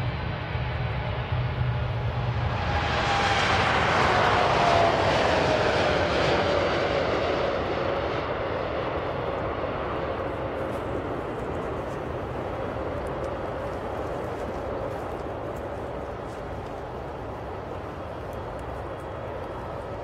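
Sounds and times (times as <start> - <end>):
jet engine whine falling in pitch: 0.0 - 20.0
jet engines roaring: 0.0 - 20.0.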